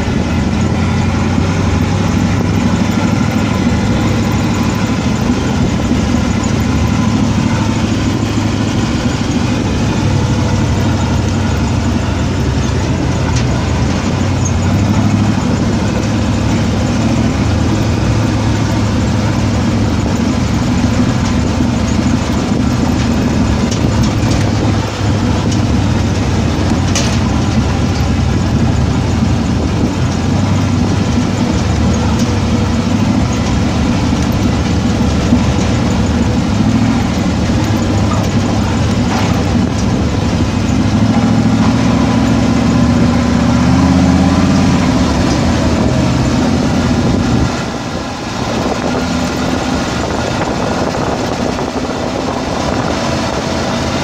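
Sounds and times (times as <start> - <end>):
dirt road rattle: 0.0 - 54.0
vehicle engine low hum: 0.0 - 54.0.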